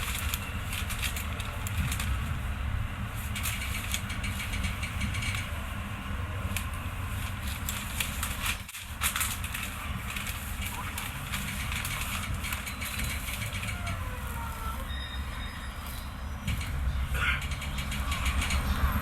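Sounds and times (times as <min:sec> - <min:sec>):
train car low hum and rumble: 0:00.0 - 0:19.0.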